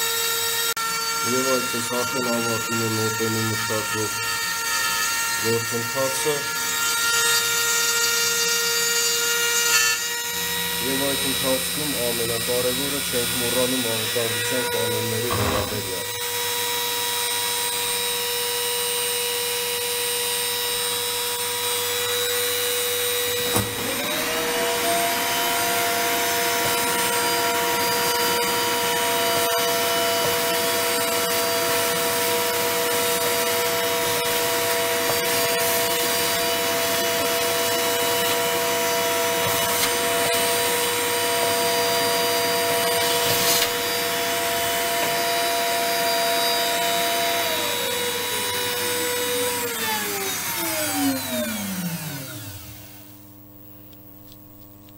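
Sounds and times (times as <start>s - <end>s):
vacuum cleaner motor whine: 0.0s - 53.5s.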